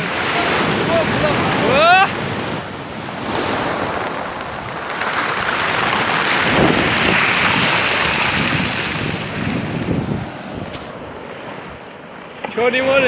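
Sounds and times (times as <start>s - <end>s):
wind buffeting microphone: 0.0s - 11.8s
waves breaking on shore: 0.0s - 12.8s.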